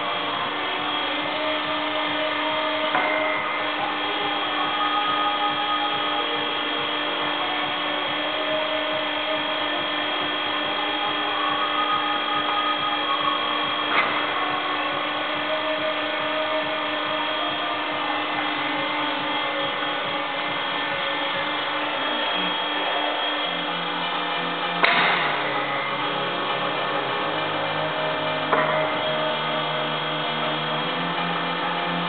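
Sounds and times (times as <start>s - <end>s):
electric motor and pump whine: 0.0s - 32.0s.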